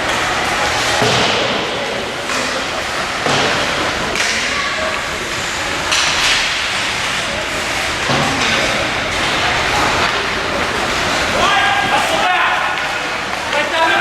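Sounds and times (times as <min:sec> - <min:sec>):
arena noise: 0:00.0 - 0:14.0
faint voices: 0:00.0 - 0:14.0.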